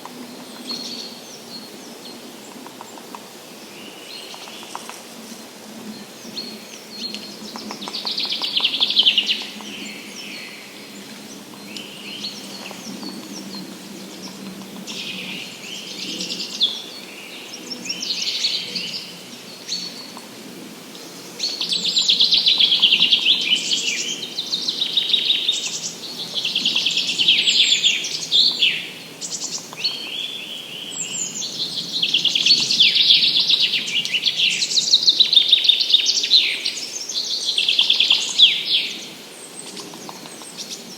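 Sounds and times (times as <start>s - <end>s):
songbirds trilling: 0.2s - 40.9s.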